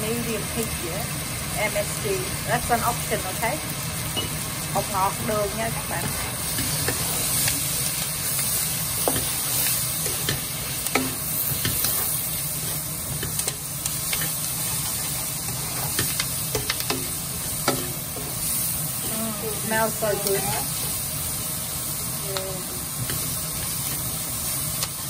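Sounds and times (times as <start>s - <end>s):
food sizzling in a wok: 0.0s - 25.0s.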